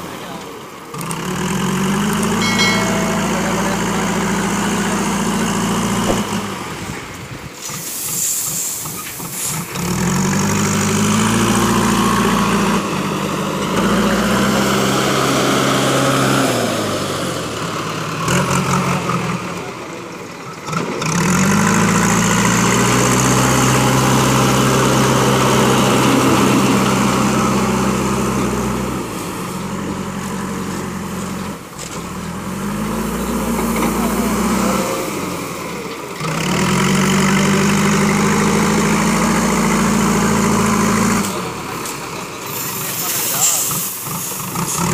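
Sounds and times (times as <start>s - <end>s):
diesel engine working under load: 0.0s - 44.9s.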